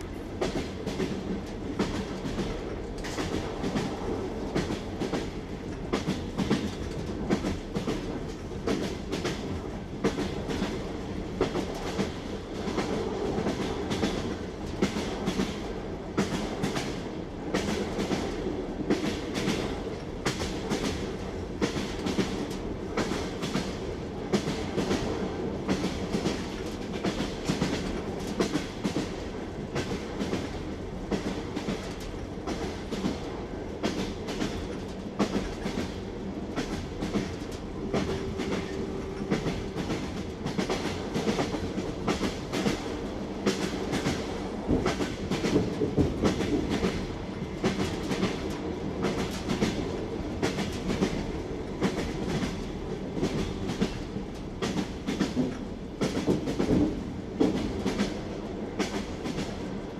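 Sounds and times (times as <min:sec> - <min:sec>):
train wheels clattering: 0:00.0 - 0:59.9.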